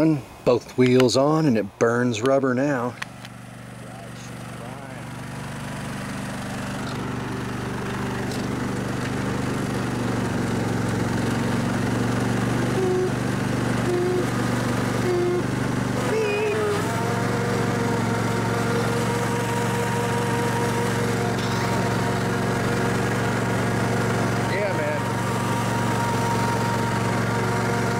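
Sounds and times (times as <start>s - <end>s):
riding lawn mower engine running: 2.2s - 27.9s.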